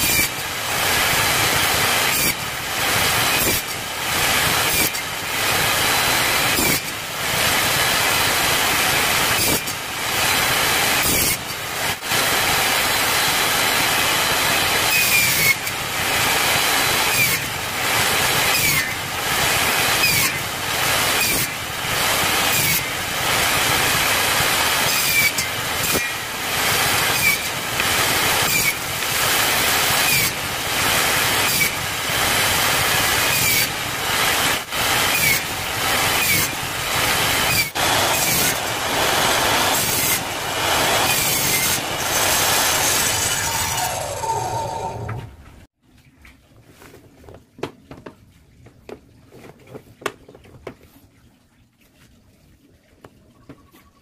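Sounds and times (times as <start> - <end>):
table saw cutting wood: 0.0 - 45.4.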